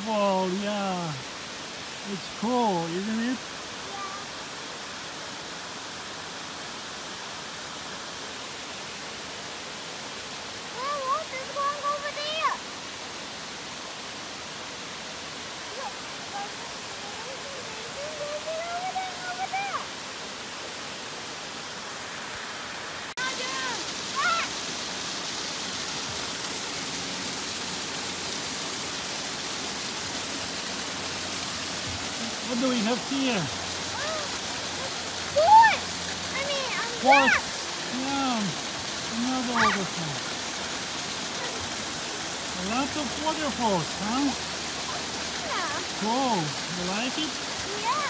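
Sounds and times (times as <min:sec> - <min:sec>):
waterfall rushing over rocks: 0:00.0 - 0:48.0.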